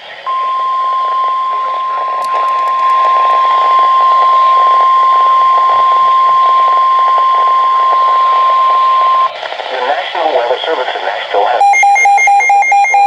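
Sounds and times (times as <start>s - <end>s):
steady loud warning beep: 0.2s - 9.3s, 11.6s - 13.0s.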